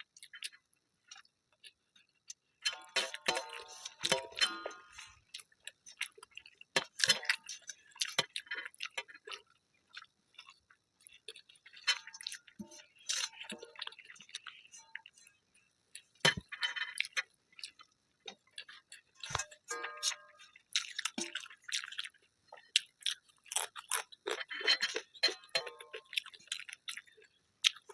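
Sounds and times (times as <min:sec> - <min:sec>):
chewing crunches: 0:00.0 - 0:02.4, 0:03.0 - 0:27.9.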